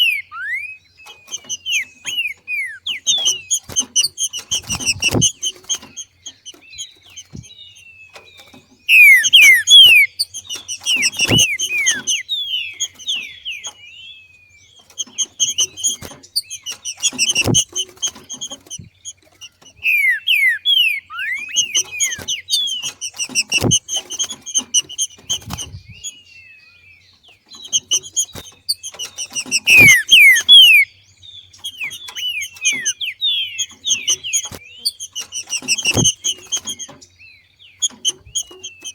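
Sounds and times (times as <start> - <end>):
bird chattering and whistling: 0.0 - 38.9.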